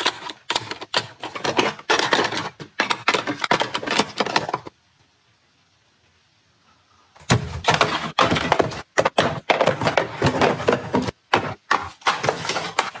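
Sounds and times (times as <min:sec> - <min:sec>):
objects clattering being handled: 0:00.0 - 0:04.7, 0:07.2 - 0:13.0.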